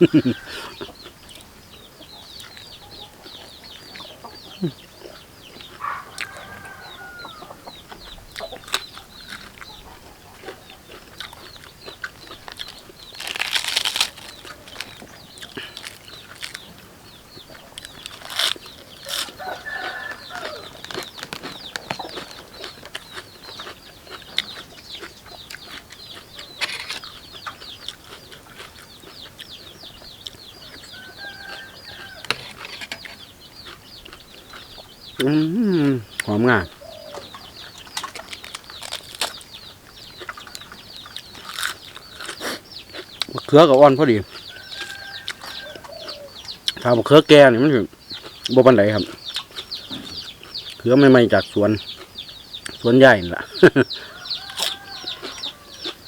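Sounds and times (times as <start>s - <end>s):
chickens clucking: 0.0s - 56.0s
crunchy chewing of vegetables: 0.0s - 56.0s.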